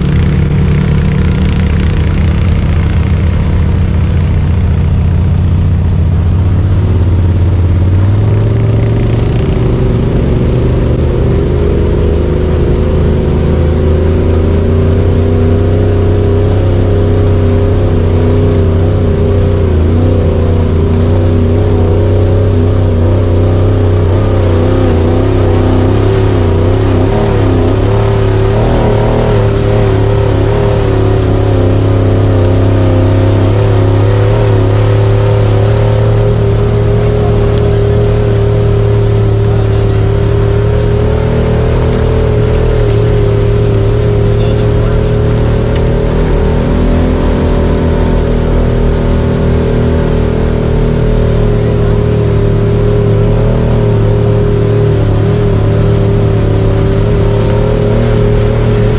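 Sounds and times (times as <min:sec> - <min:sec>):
engine running loud: 0:00.0 - 0:58.9.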